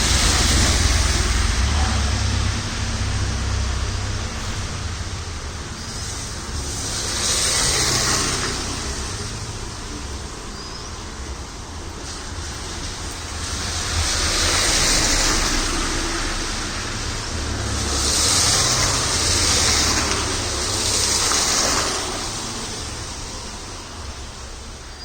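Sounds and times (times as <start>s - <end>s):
low road rumble: 0.0s - 25.0s
tyres hissing through water: 0.0s - 25.0s.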